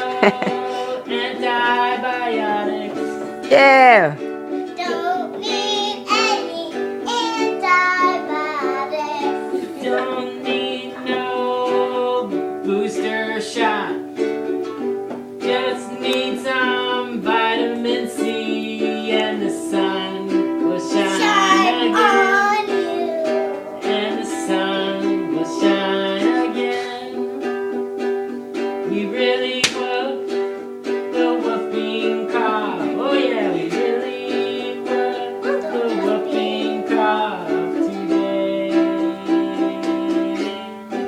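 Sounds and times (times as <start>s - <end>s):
person singing: 0.0s - 41.0s
ukulele strumming: 0.0s - 41.0s.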